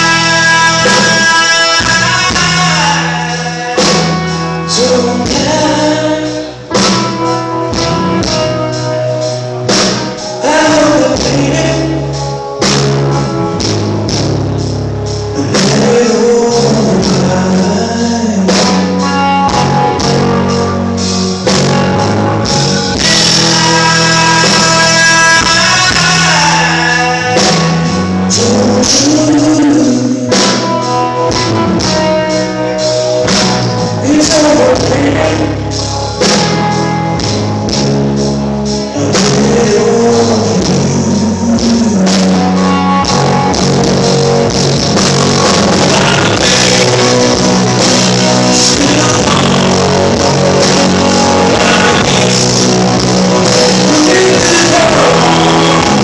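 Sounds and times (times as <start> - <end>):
bass: 0.0 - 56.0
drums: 0.0 - 56.0
lead guitar line with pitch bends: 0.0 - 56.0.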